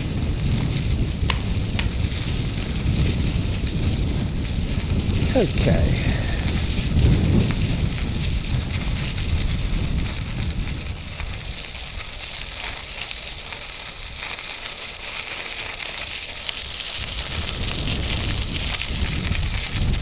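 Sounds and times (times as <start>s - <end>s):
bicycle rolling noise: 0.0s - 20.0s
wind buffeting microphone: 0.0s - 20.0s.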